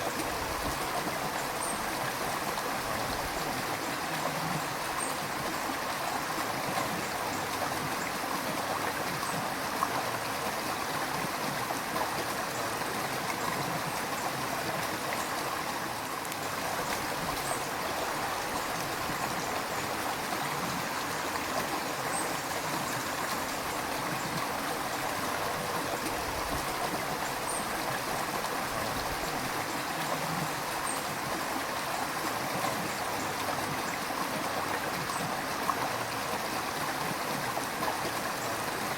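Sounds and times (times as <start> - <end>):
water flowing over rocks: 0.0 - 38.9.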